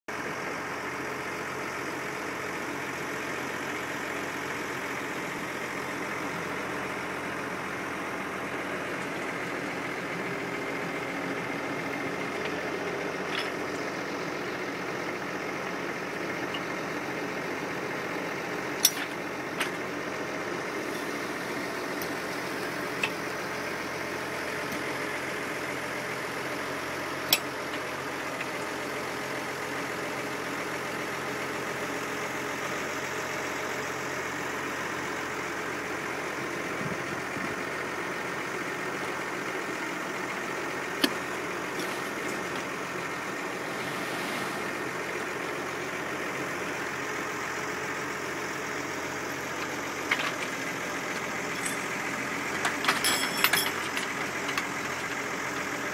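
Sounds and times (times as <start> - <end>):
engine running: 0.1 - 55.9.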